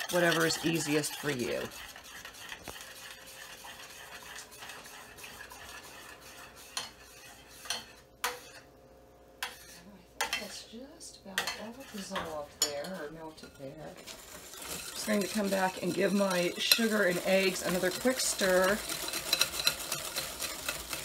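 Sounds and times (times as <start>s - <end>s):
metal spoon scraping saucepan: 0.0s - 8.7s, 9.4s - 10.7s, 11.3s - 21.0s.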